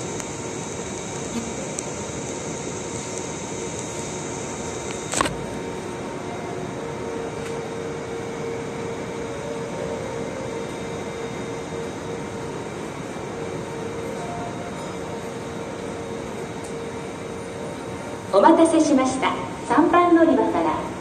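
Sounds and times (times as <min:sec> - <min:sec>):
subway train humming: 0:00.0 - 0:21.0.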